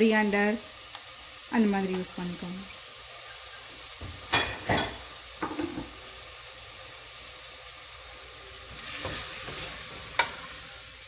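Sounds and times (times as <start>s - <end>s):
masala sizzling in oil: 0.0s - 11.0s.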